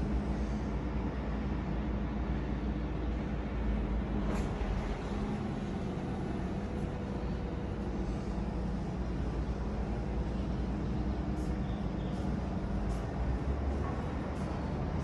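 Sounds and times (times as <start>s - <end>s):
faint hum: 0.0s - 15.0s
low machinery rumble: 0.0s - 15.0s.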